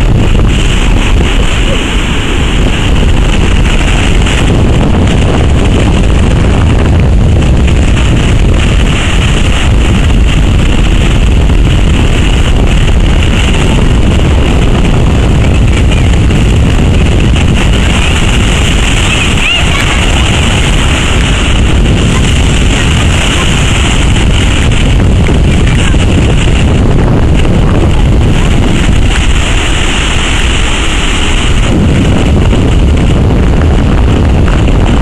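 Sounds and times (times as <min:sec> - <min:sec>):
heavy surf breaking: 0:00.0 - 0:35.0
wind buffeting microphone: 0:00.0 - 0:35.0.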